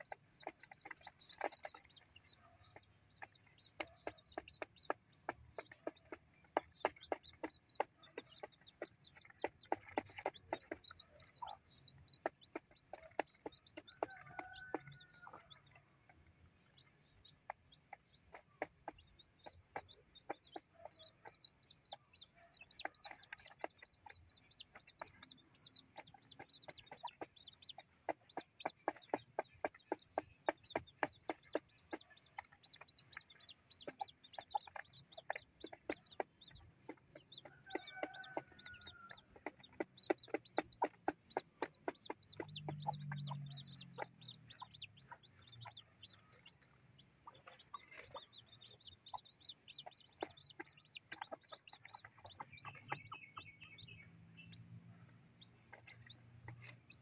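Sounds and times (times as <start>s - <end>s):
chicks peeping: 0.0s - 57.0s
hen clucking: 0.0s - 57.0s
beaks tapping on cardboard: 0.1s - 15.6s, 17.0s - 21.4s, 22.0s - 46.4s, 47.3s - 54.0s.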